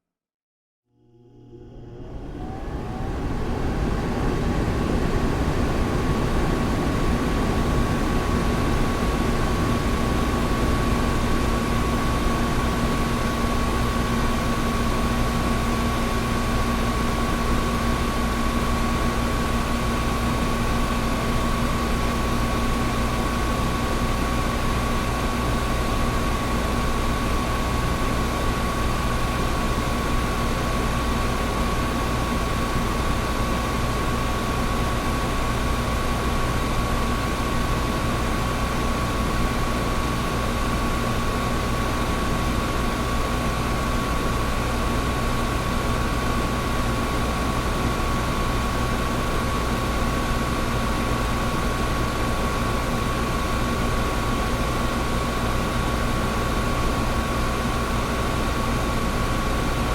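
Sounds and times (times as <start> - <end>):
air conditioner running: 1.0 - 59.9.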